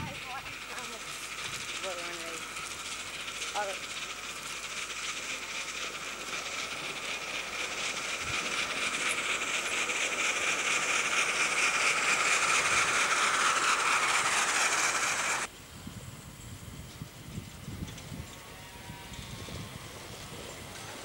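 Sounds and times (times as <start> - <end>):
steam locomotive running: 0.0 - 21.0.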